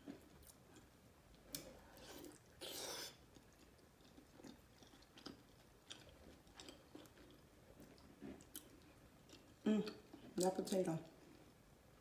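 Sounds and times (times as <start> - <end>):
chewing food: 0.0 - 11.6.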